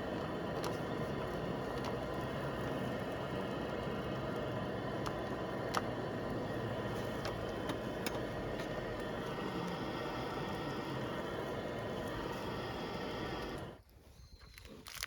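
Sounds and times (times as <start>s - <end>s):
fire crackles and pops: 0.0s - 13.8s
campfire burning: 0.0s - 13.9s.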